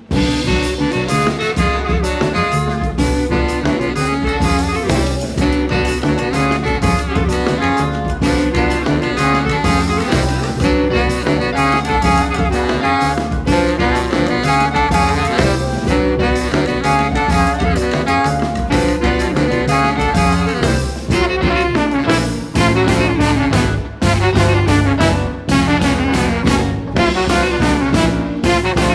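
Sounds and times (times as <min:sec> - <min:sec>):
jazz band playing: 0:00.0 - 0:28.9.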